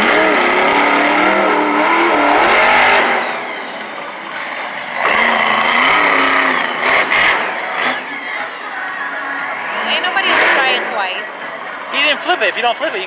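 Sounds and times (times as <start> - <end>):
truck engine revving hard: 0.0 - 11.6.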